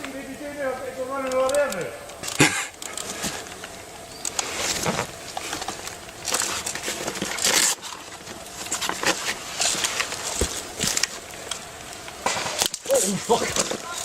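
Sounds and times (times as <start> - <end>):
crunching through dry undergrowth: 0.0 - 14.0.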